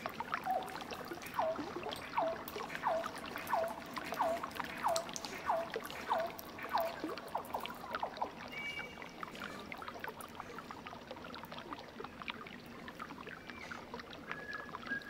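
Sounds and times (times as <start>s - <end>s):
wet sticky clicks: 0.0s - 15.0s.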